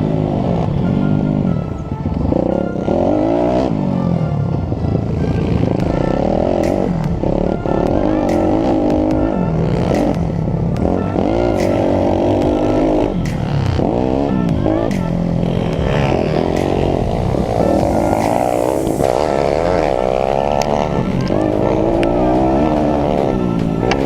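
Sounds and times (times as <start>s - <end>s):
motorbike engine revving: 0.0s - 24.0s.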